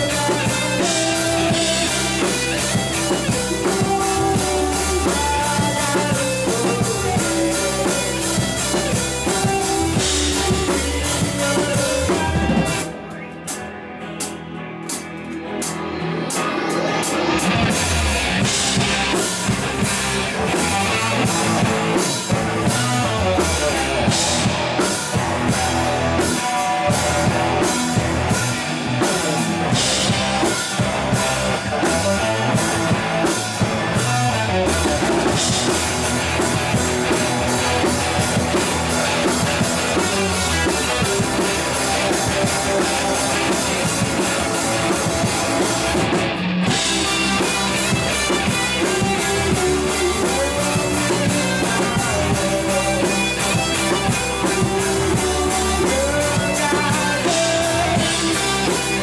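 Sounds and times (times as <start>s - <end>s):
bass guitar: 0.0s - 59.0s
drum kit beat: 0.0s - 59.0s
electric guitars: 0.0s - 59.0s.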